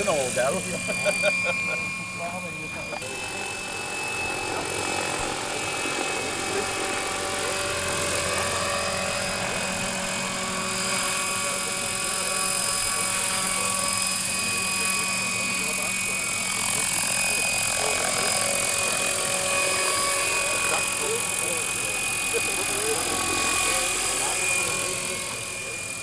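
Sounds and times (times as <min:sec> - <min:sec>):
helicopter rotor noise: 0:00.0 - 0:26.0
model helicopter drive whine: 0:00.0 - 0:26.0.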